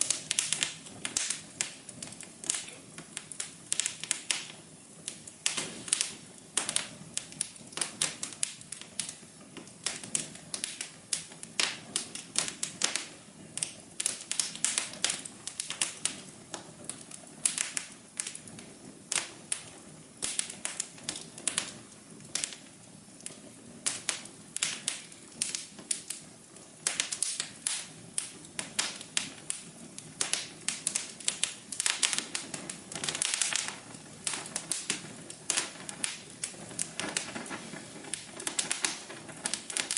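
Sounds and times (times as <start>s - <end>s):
low background hiss: 0.0s - 39.9s
wood fire crackling: 0.0s - 39.9s.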